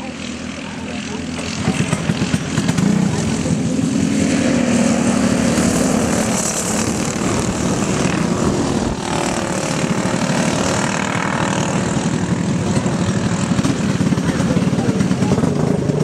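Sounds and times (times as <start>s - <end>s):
go-kart engines buzzing: 0.0s - 16.0s.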